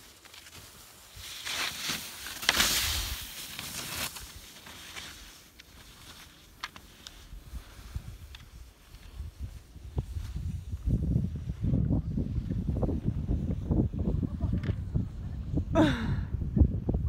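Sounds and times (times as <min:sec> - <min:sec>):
skis scraping through snow: 0:00.0 - 0:13.9.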